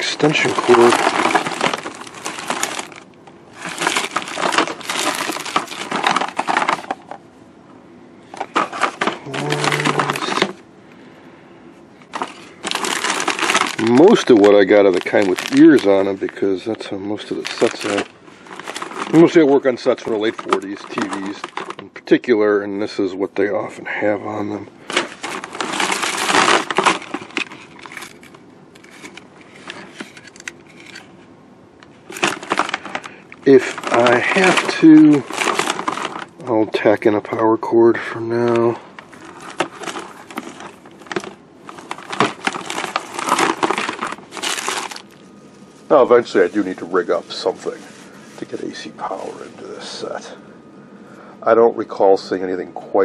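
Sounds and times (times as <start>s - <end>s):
plastic bags crinkling: 0.0s - 7.2s, 8.3s - 10.6s, 12.0s - 22.0s, 24.8s - 31.1s, 31.9s - 37.4s, 38.2s - 50.3s
power cords rustling: 0.0s - 7.3s, 8.2s - 10.7s, 11.9s - 22.0s, 24.8s - 37.4s, 38.0s - 50.3s.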